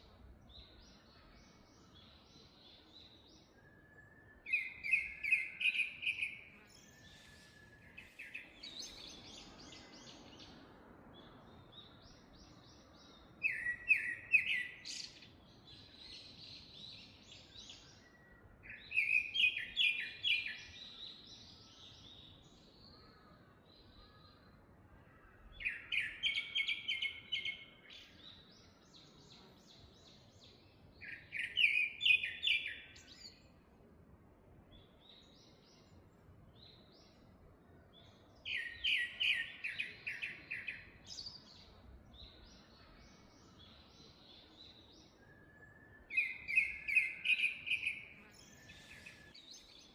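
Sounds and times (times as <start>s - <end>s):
faint birdsong: 0.0s - 49.9s.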